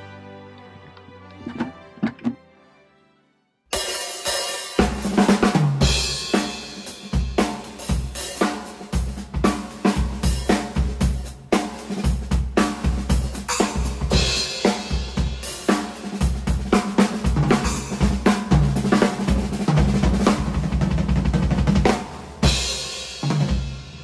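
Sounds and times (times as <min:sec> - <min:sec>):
drum kit groove: 0:03.7 - 0:24.0.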